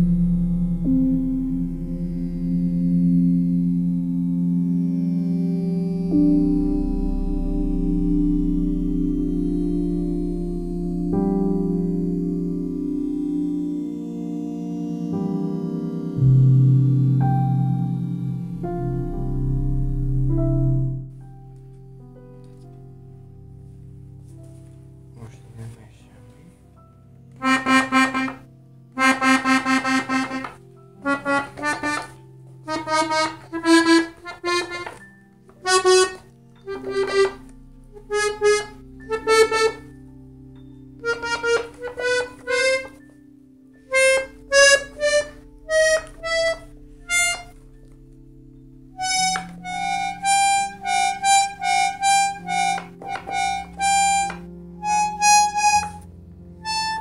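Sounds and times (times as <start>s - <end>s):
accordion bass tones: 0.0s - 21.2s, 27.4s - 35.0s, 35.6s - 43.1s, 43.8s - 57.0s
piano accordion single notes: 0.0s - 57.0s.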